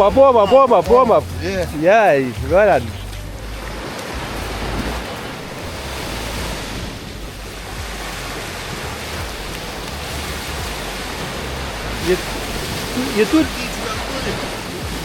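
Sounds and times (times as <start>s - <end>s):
water rushing: 0.0s - 15.0s
wind rumble on microphone: 0.0s - 15.0s.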